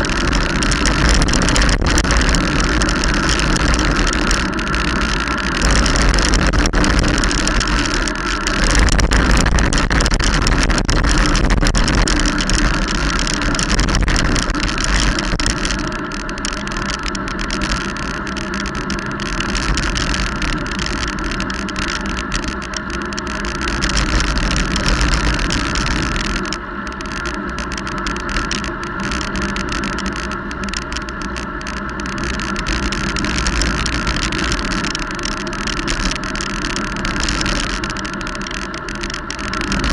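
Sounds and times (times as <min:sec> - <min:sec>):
tyre noise on wet road: 0:00.0 - 0:39.9
wind rushing over microphone: 0:00.0 - 0:39.9.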